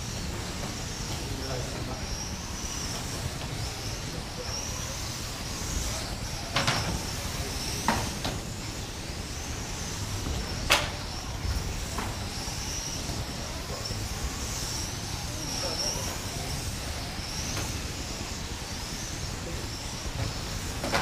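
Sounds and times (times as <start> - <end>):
electric toy car motors whining: 0.0 - 21.0.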